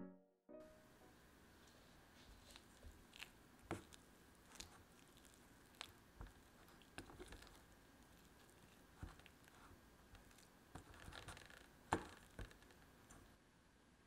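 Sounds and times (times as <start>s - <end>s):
spatula squishing butter in bowl: 1.6s - 13.4s.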